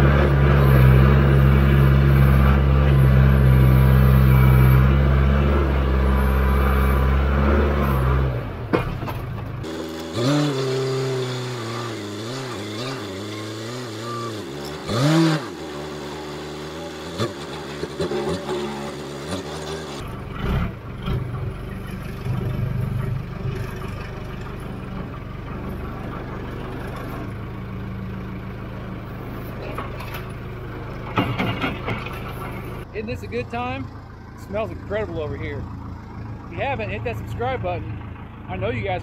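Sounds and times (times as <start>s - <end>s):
diesel farm machine engine: 0.0s - 39.0s.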